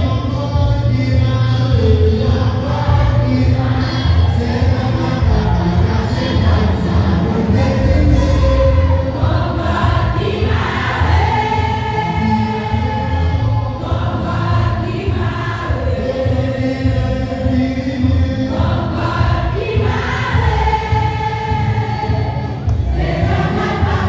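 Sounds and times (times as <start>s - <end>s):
instrumental accompaniment with bass: 0.0s - 24.0s
choir singing a hymn: 2.5s - 24.0s.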